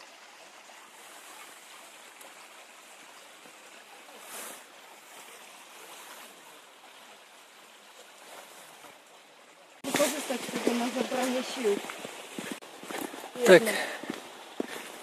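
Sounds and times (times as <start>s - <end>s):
rushing mountain stream: 0.0s - 15.0s.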